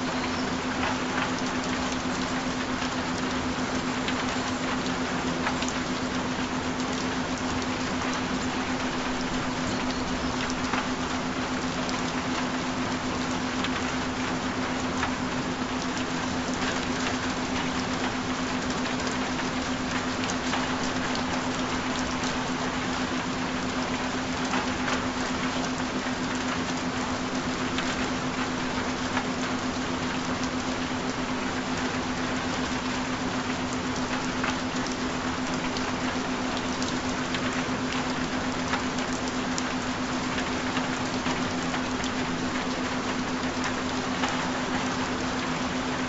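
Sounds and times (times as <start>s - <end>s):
constant low hum tone: 0.0s - 46.0s
steady rain hiss: 0.0s - 46.0s.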